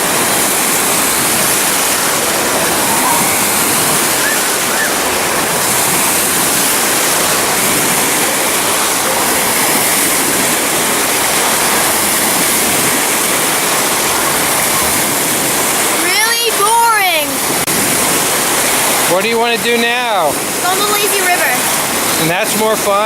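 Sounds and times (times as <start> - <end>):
water falling and splashing: 0.0 - 23.0.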